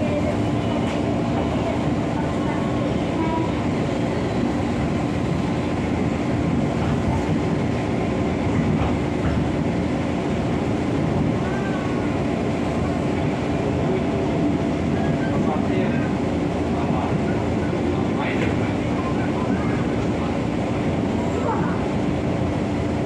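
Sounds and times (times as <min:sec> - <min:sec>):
steady train hum: 0:00.0 - 0:23.0
train wheels rumbling on rails: 0:00.0 - 0:23.0.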